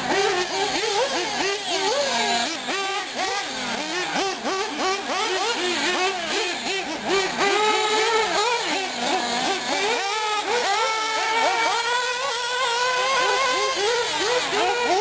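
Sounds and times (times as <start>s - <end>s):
high-revving small nitro engines: 0.0s - 15.0s.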